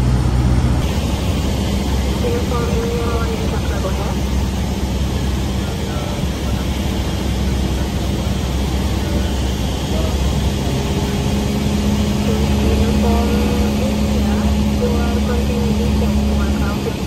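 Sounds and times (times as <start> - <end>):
airplane engine drone in cabin: 0.0 - 17.0.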